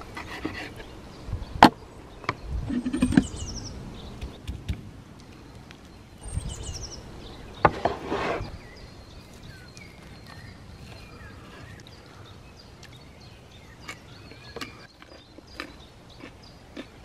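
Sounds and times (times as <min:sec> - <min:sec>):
small bird chirping: 0:00.7 - 0:07.7, 0:08.4 - 0:17.0.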